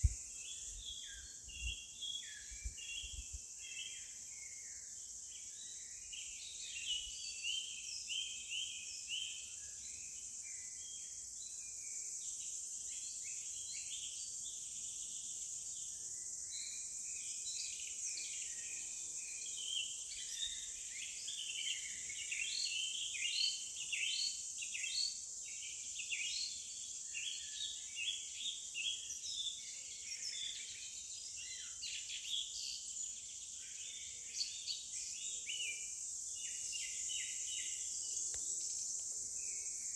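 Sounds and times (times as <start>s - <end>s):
birds singing and chirping: 0.0s - 11.6s, 12.2s - 39.9s
insects droning: 0.0s - 39.9s.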